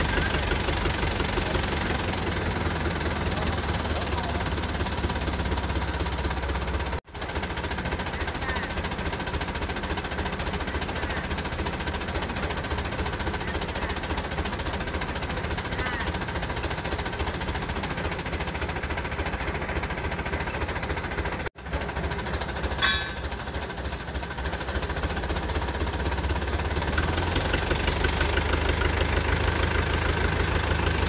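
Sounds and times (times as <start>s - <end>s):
diesel engine clattering: 0.0s - 31.0s.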